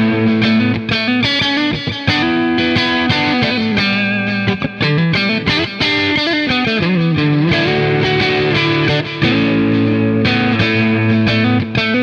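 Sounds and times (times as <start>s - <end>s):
electric guitar picked notes: 0.0s - 12.0s.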